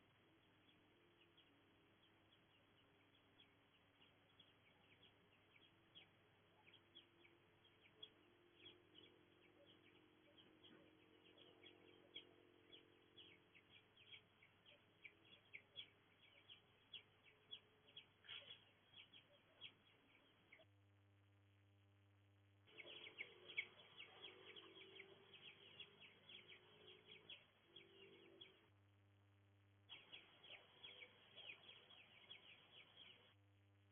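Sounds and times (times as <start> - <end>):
small birds chirping: 0.0 - 20.8, 22.6 - 28.8, 29.8 - 33.9.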